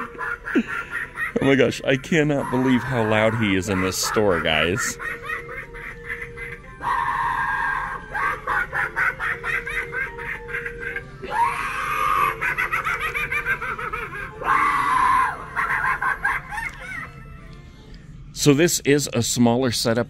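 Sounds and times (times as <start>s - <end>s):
clown voice laughing: 0.0s - 17.1s
music: 0.0s - 20.0s.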